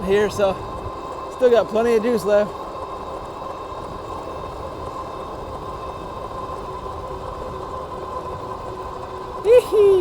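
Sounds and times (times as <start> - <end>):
electric motors whining: 0.0 - 10.0
wind and tyre rumble: 0.0 - 10.0.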